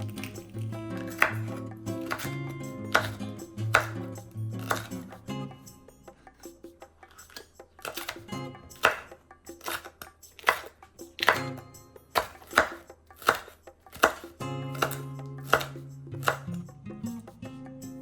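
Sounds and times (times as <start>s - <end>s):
knife chopping on cutting board: 0.0s - 5.2s, 7.1s - 16.6s
background music: 0.0s - 18.0s.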